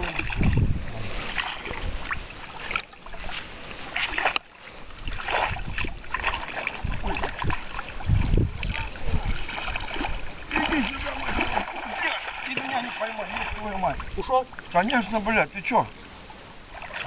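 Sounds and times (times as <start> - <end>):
water sloshing from wading: 0.0 - 17.0.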